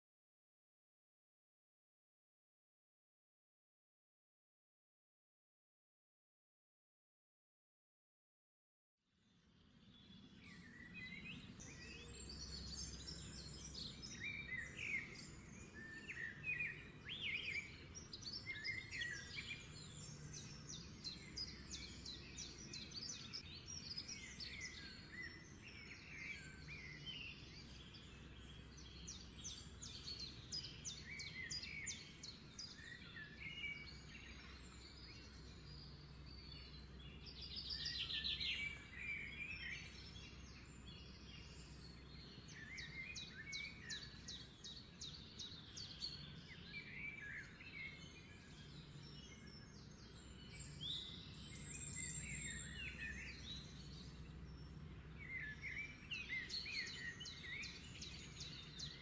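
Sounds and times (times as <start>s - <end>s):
small birds chirping: 9.5s - 59.0s.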